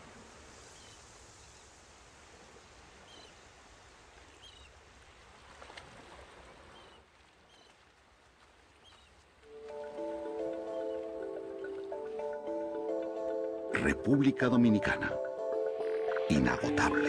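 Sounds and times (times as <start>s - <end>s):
surf washing: 0.0s - 17.0s.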